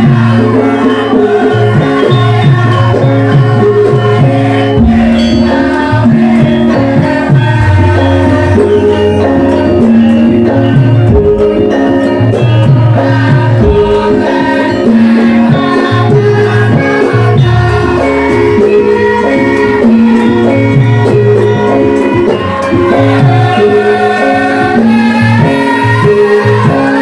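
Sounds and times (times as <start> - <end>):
steady drum beat: 0.0 - 27.0
struck metallophone notes: 0.0 - 27.0.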